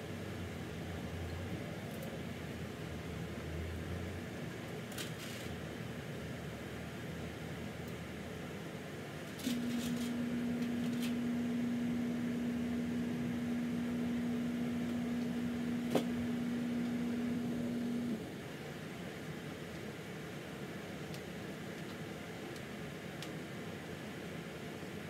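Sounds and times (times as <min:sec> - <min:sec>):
appliance hum: 0:00.0 - 0:25.0.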